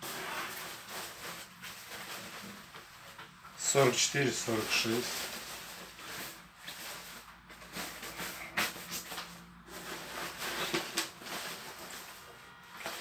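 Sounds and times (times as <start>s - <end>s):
nylon fabric rustling and swishing: 0.0s - 13.0s.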